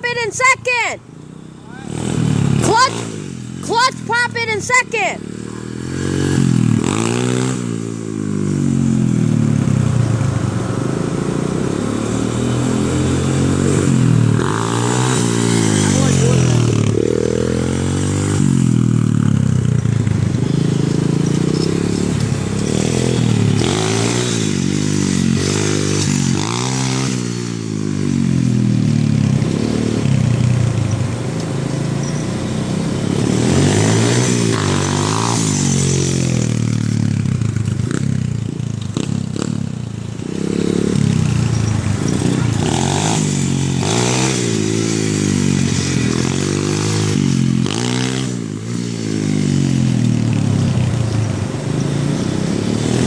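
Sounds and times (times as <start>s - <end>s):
motorbike engine revving: 1.0s - 53.0s.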